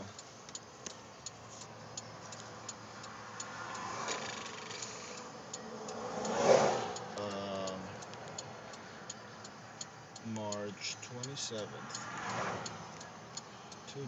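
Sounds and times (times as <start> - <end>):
freeway traffic passing: 0.0 - 14.0.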